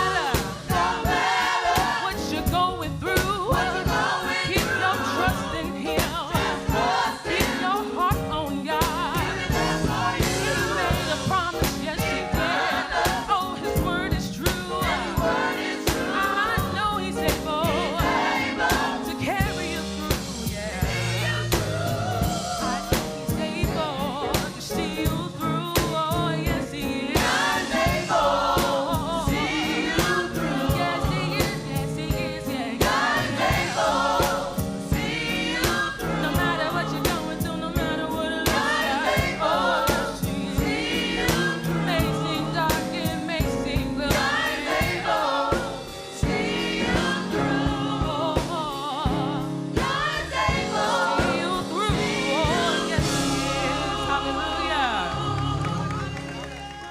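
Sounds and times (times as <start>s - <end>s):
drums keeping steady beat: 0.0s - 54.3s
choir singing with band: 0.0s - 56.9s.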